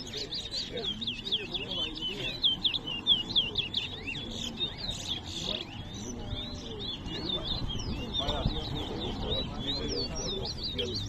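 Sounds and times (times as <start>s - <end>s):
finches singing: 0.0s - 11.0s.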